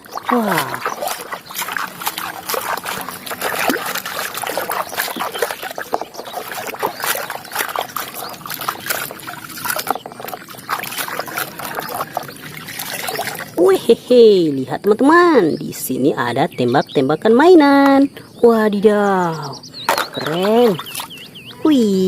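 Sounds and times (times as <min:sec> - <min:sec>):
water trickling and splashing: 0:00.0 - 0:16.9, 0:19.1 - 0:22.0.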